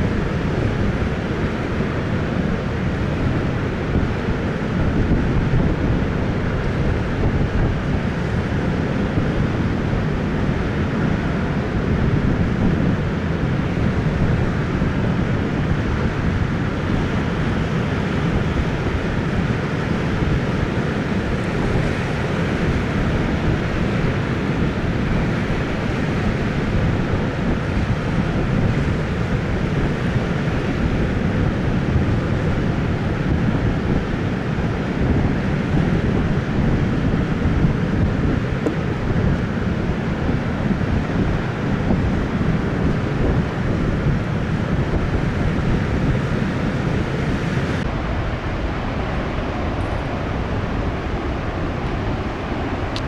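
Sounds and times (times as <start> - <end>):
heavy surf on rocks: 0.0 - 53.0
wind on microphone: 0.0 - 53.0.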